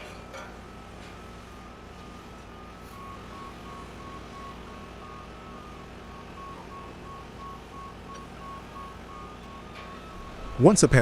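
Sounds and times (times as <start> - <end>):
engine humming: 0.7 - 11.0
two-tone warning beeps: 1.0 - 11.0.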